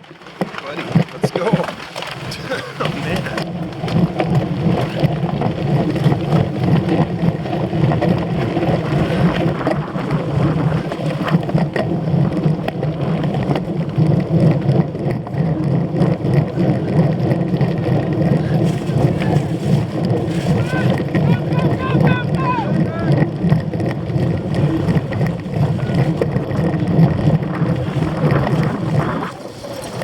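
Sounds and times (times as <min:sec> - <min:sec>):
bike rattling over bumpy ground: 0:00.0 - 0:30.0
wind buffeting: 0:00.7 - 0:30.0.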